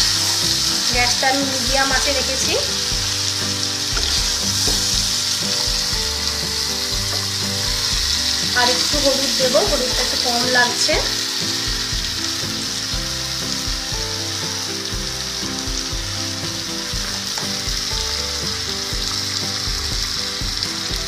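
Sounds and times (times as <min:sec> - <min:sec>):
vegetables sizzling in oil: 0:00.0 - 0:21.0
wooden spatula stirring: 0:00.0 - 0:21.0.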